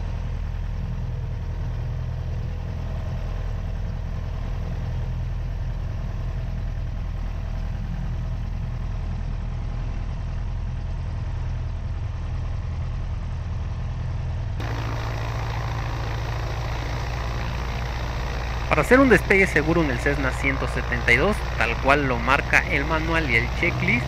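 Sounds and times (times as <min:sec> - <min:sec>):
propeller engine droning: 0:00.0 - 0:24.0.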